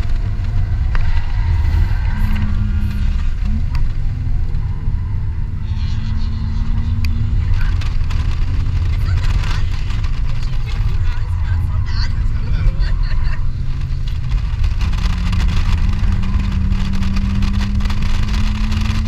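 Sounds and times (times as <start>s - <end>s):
car engine at speed: 0.0s - 19.0s
road and wind rumble: 0.0s - 19.0s.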